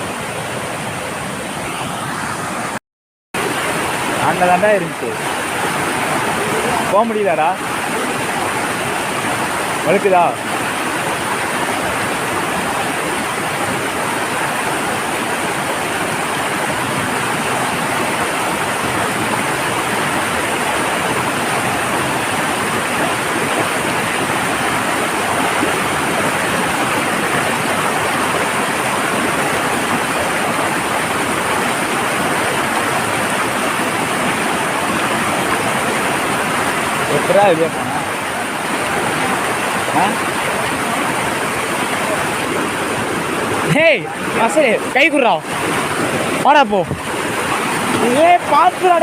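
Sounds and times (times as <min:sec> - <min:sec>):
waterfall roaring: 0:00.0 - 0:02.8, 0:03.4 - 0:49.0.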